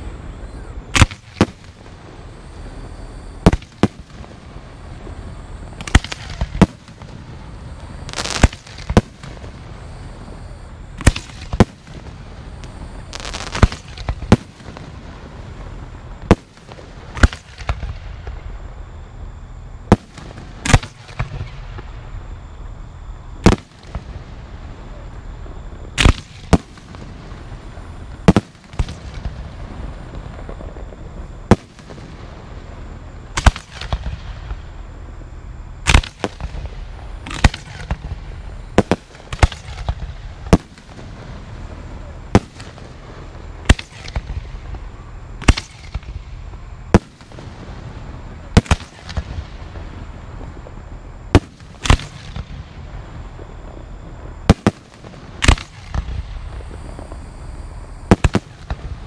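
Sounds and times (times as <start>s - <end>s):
fireworks bangs: 0.0s - 18.7s, 19.8s - 22.2s, 23.3s - 59.0s.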